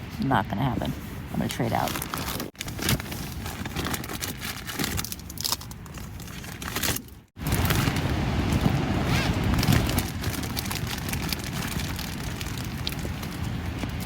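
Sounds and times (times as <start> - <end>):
plastic packets crinkling and rustling: 1.5 - 14.0.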